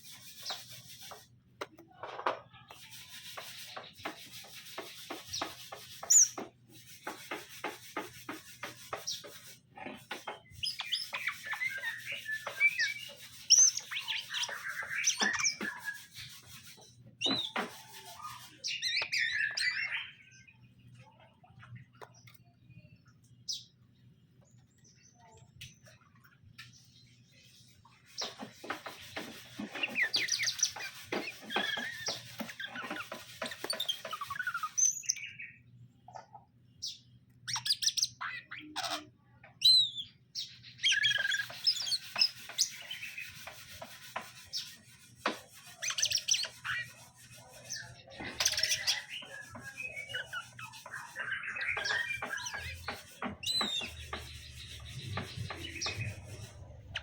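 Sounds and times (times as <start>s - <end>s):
bird chirping and warbling: 2.6s - 23.8s, 24.4s - 57.0s.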